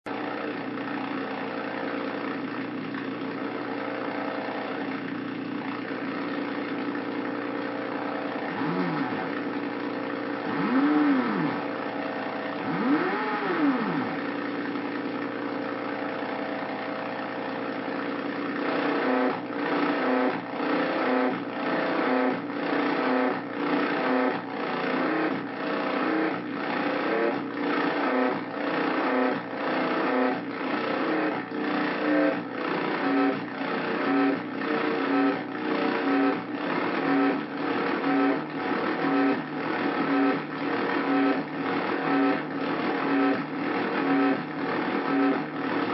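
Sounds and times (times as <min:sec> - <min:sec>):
buzzy synthesizer drone: 0:03.4 - 0:45.9.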